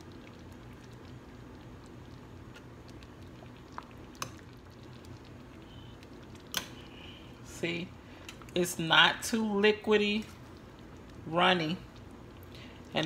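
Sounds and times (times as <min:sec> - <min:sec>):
gravy simmering in a pot: 0:00.0 - 0:13.0.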